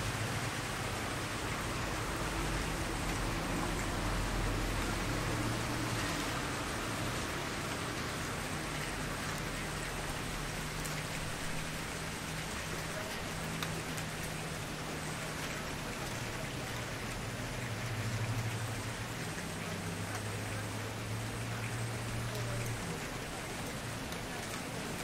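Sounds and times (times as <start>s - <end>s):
campfire hissing and crackling: 0.0s - 25.0s.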